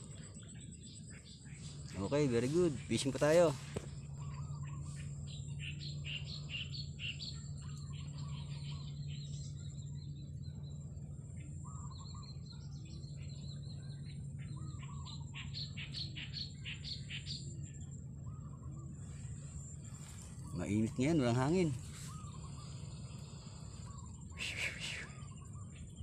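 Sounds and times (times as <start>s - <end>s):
small birds chirping: 0.0s - 26.0s
steady low hum: 0.0s - 26.0s
thin high-pitched whine: 0.0s - 26.0s.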